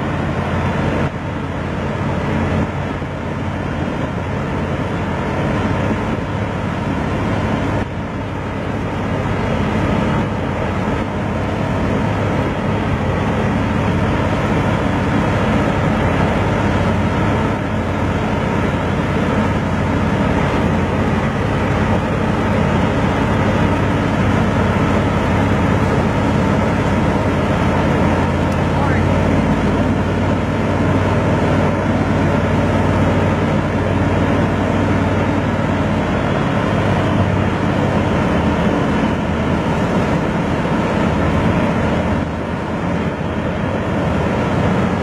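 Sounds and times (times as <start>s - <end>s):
hovercraft engine and fans humming: 0.0s - 45.0s.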